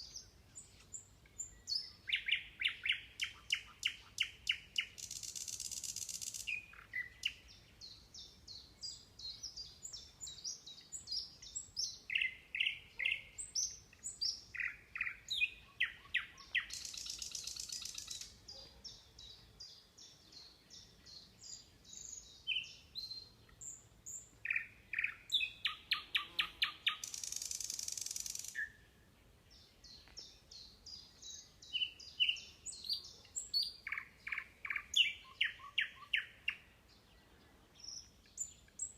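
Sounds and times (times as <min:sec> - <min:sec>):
songbirds chirping and whistling: 0:00.0 - 0:38.9.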